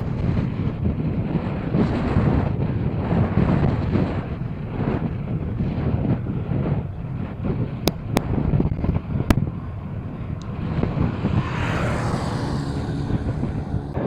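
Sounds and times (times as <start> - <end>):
passing vehicle tyre noise: 0.0 - 14.0
wind buffeting microphone: 0.0 - 14.0.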